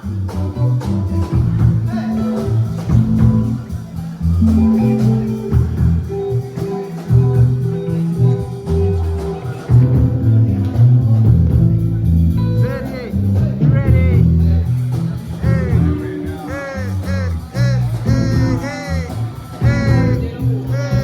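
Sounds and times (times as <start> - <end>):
live band music: 0.0 - 21.0
stepping bass line: 0.0 - 21.0.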